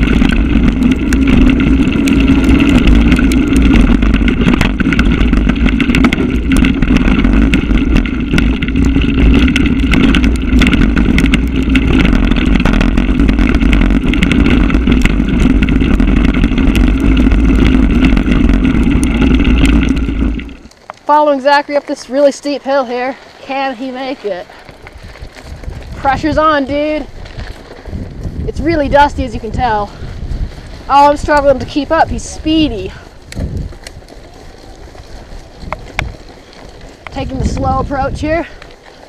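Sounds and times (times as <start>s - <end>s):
bike clicks and rattles: 0.0s - 39.0s
tyre and wind rumble: 0.0s - 39.0s.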